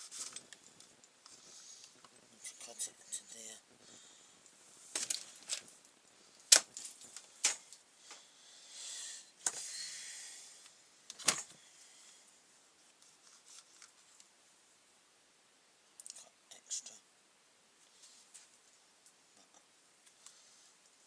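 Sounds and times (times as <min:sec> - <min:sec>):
soft rustling hiss: 0:00.0 - 0:21.0.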